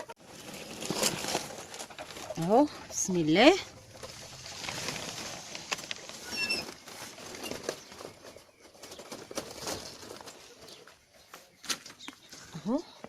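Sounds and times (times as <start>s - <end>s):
ducks pecking: 0.0s - 11.6s
rustling and pattering of feed: 0.0s - 12.6s.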